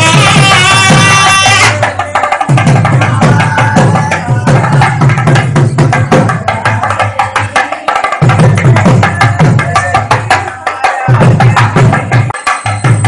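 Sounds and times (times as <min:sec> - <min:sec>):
rapid drumming: 0:00.0 - 0:13.0.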